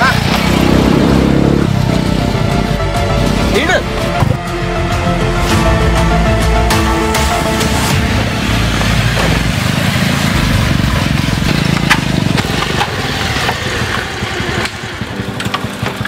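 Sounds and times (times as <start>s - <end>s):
motorcycle engines idling: 0.0s - 4.8s, 7.4s - 16.0s.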